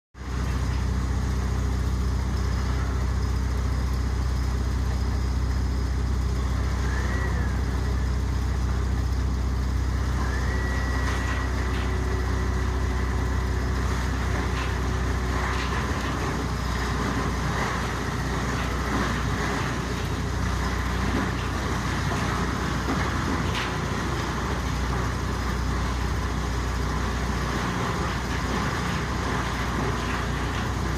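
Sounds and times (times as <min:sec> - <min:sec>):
wood crusher humming: 0:00.2 - 0:30.9.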